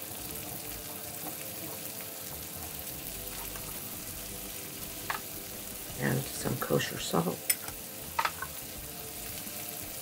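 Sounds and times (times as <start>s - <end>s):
onion and bacon sizzling: 0.0s - 10.0s.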